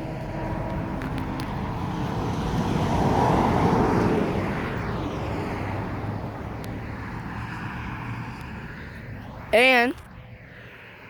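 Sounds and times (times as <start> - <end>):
truck passing on highway: 0.0 - 11.0.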